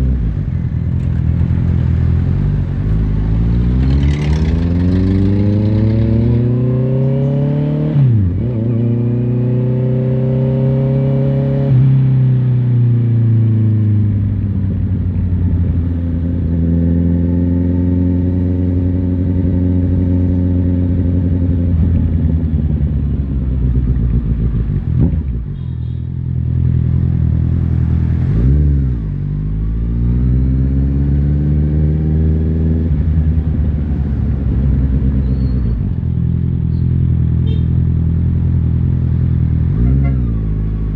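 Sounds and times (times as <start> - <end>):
motorcycle engine accelerating: 0.0 - 25.5, 26.3 - 40.9.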